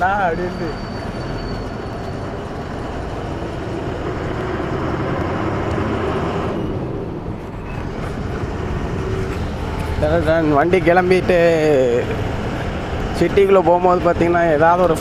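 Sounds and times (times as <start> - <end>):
lorry engine running: 0.0 - 15.0
road noise: 0.0 - 15.0.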